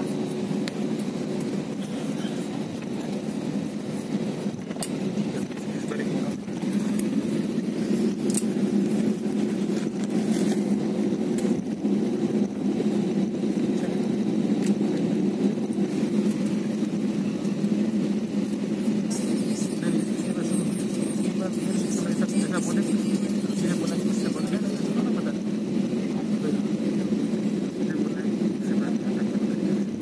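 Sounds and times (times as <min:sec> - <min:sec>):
airliner engines droning: 0:00.0 - 0:30.0.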